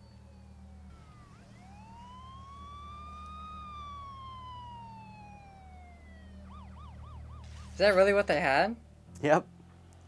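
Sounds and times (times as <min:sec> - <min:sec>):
police siren wailing: 0:00.0 - 0:08.6.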